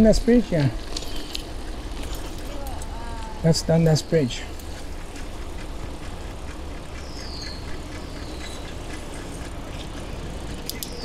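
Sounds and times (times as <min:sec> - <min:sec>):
mountain bike riding rumble: 0:00.0 - 0:11.0.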